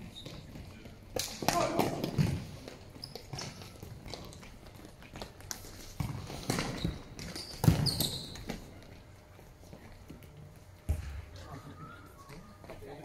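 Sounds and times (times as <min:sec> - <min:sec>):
shoes squeaking on floor: 0:00.0 - 0:01.1, 0:02.1 - 0:13.0.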